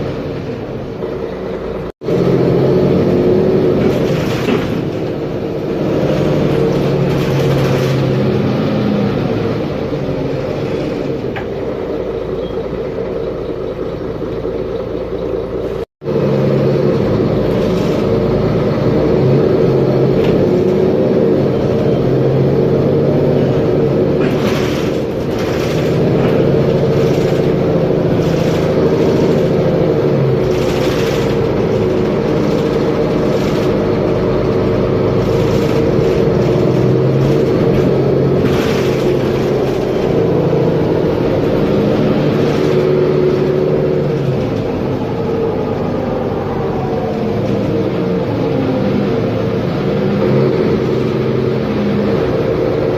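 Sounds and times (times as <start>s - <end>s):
bus diesel engine drone: 0.0s - 52.9s.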